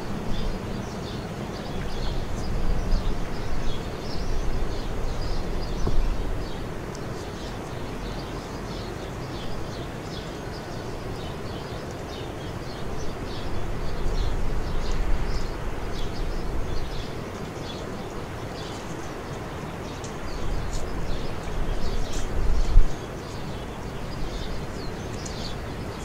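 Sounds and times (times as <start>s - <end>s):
small birds chirping: 0.1s - 26.0s.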